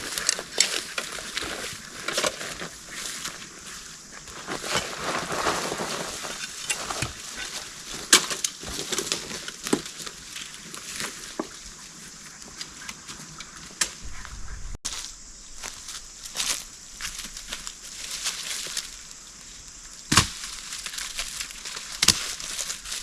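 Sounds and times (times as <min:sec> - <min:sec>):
dry leaves and twigs crunching: 0:00.0 - 0:23.0.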